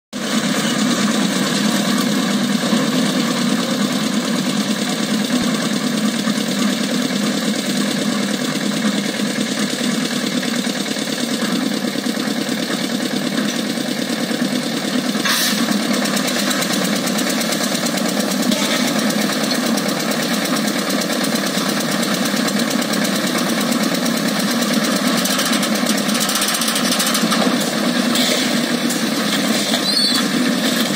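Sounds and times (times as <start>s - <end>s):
concrete mixer engine running: 0.2s - 30.9s.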